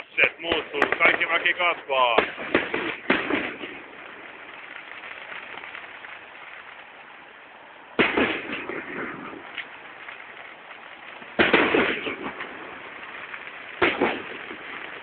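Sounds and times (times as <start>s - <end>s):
firework bangs with crackle: 0.0s - 15.0s
steady background hiss: 0.0s - 15.0s.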